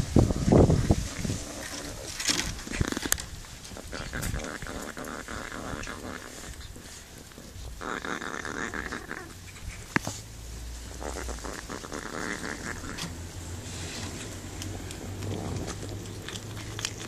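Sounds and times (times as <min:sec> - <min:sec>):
cat chewing and crunching food: 0:00.4 - 0:17.0.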